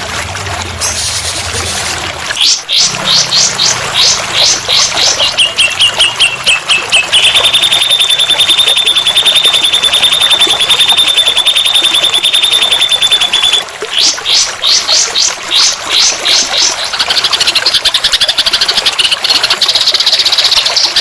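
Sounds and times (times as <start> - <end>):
songbird chirps and trill: 2.4 - 21.0.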